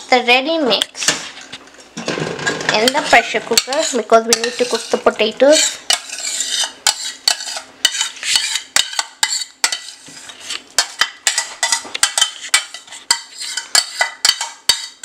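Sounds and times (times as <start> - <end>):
utensil scraping metal pan: 2.0 - 15.0.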